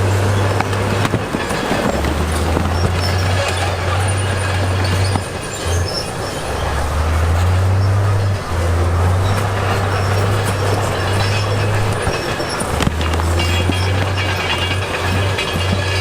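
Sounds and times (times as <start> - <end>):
diesel engine droning: 0.0 - 16.0
steel tracks squealing and clanking: 0.0 - 16.0.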